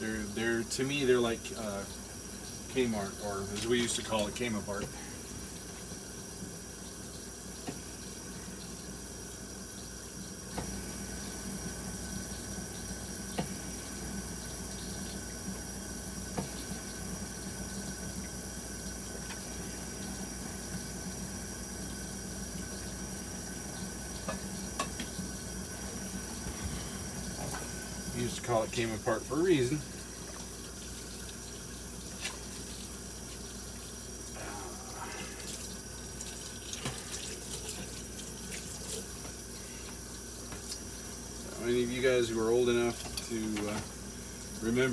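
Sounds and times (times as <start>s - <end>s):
tap water running: 0.0s - 44.9s.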